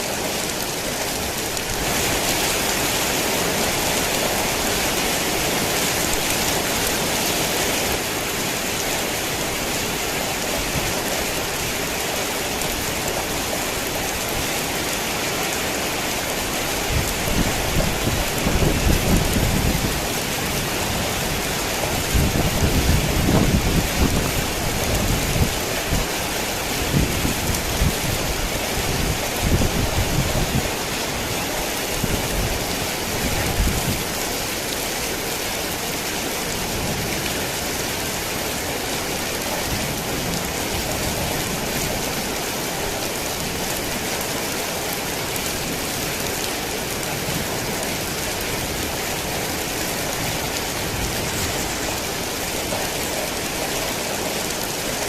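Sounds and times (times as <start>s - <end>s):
heavy rain hiss: 0.0s - 55.0s.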